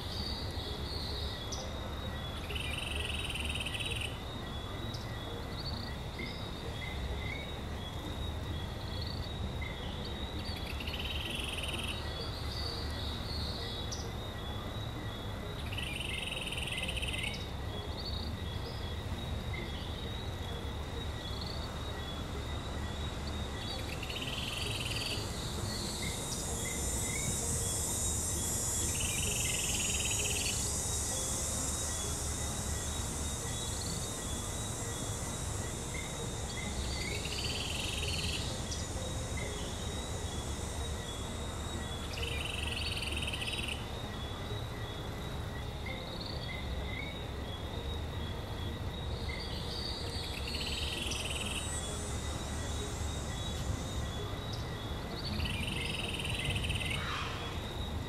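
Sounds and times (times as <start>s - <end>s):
high insect buzz: 0.0s - 58.0s
insect chorus: 0.0s - 58.0s.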